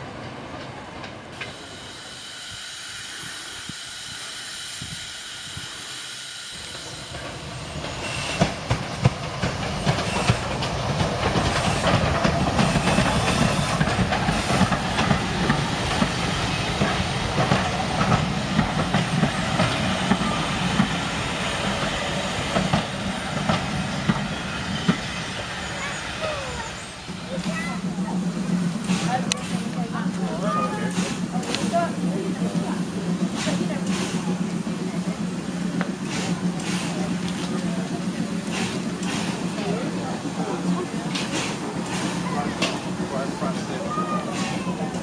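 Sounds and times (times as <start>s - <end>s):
steam locomotive running: 0.0s - 45.0s
train wheels clicking over rail joints: 0.3s - 25.5s, 27.1s - 45.0s.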